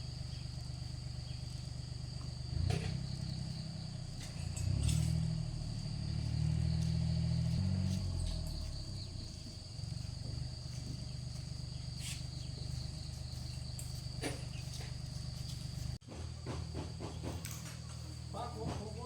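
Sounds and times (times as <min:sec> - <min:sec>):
crickets chirring: 0:00.0 - 0:19.0
small engine idling: 0:00.0 - 0:19.0.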